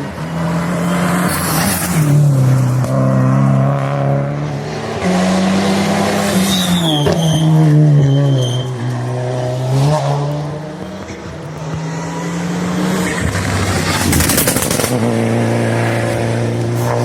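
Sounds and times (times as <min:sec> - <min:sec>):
racing car engine: 0:00.0 - 0:17.0.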